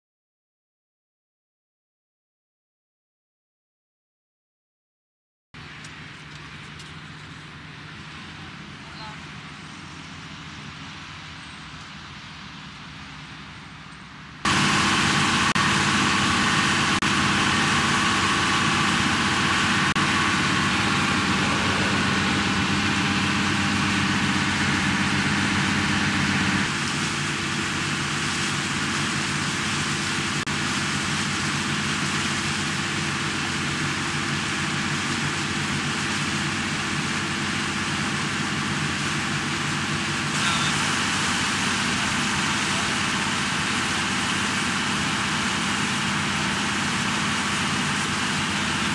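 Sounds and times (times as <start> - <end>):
boat engine drone: 5.6 - 48.9
wind and water hiss: 5.6 - 48.9.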